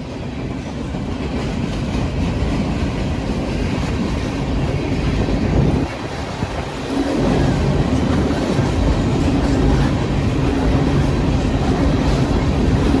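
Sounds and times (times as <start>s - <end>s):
train rumbling by: 0.0s - 13.0s.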